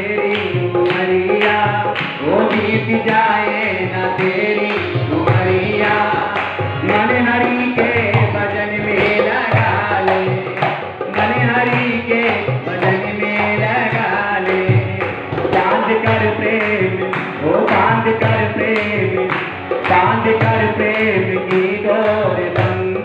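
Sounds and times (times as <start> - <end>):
hand drum beating rhythm: 0.0 - 23.0
harmonium held tones: 0.0 - 23.0.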